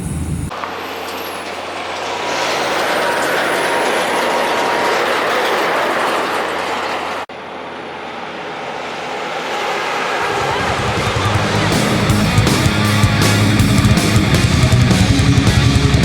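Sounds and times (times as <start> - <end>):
truck passing: 0.0 - 16.0
tyre and trailer rush: 0.0 - 16.0.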